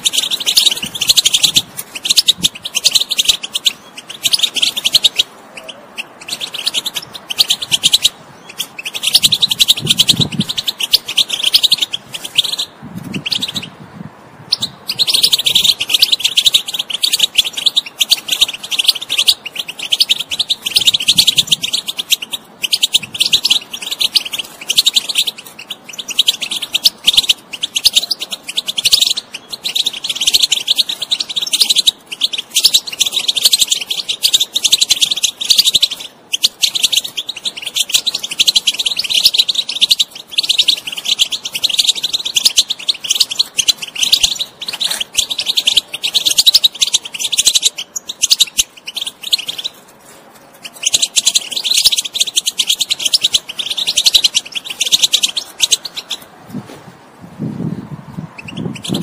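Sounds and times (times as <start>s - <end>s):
bird twittering and trilling: 0.0s - 13.8s, 14.4s - 56.3s, 57.4s - 59.0s.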